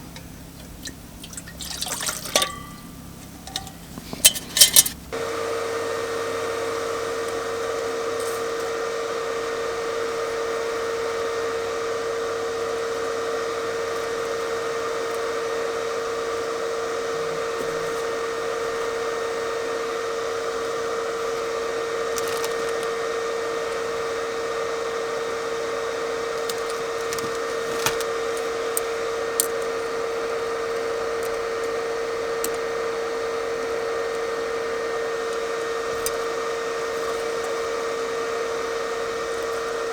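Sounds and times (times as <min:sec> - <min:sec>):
machine hum with steady tone: 0:00.0 - 0:39.9.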